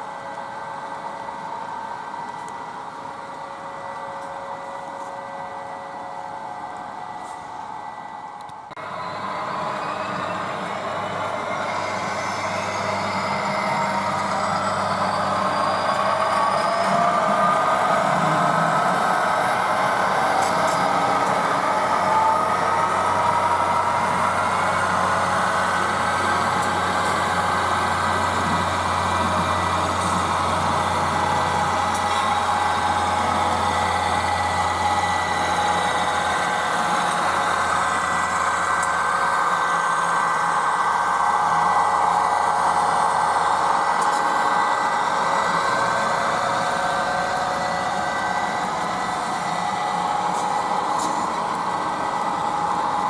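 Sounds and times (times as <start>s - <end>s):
model train mechanical hum: 0.0s - 53.0s.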